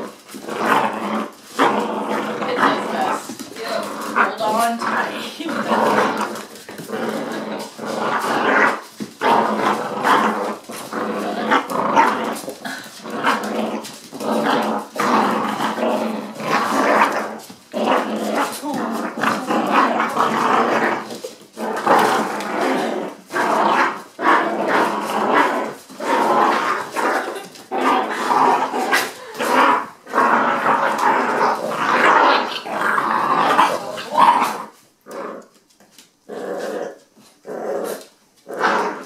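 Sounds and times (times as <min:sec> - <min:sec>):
puppies growling in play: 0:00.0 - 0:39.0.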